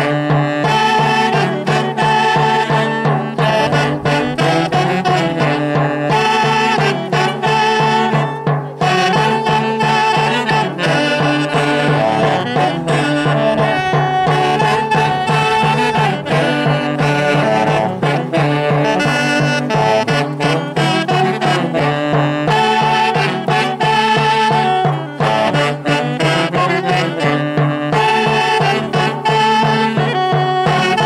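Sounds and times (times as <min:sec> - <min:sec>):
hand drum beat: 0:00.0 - 0:31.0
saxophones playing melody: 0:00.0 - 0:31.0.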